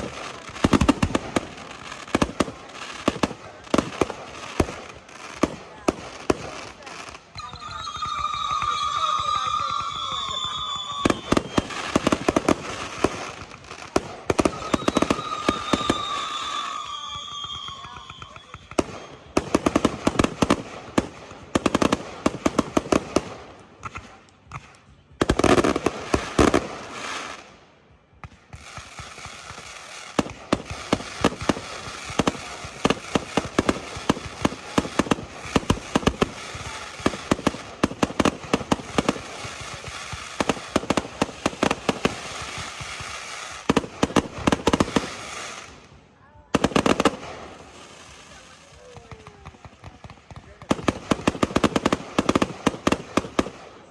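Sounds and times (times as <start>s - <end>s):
fireworks banging and crackling: 0.0s - 53.9s.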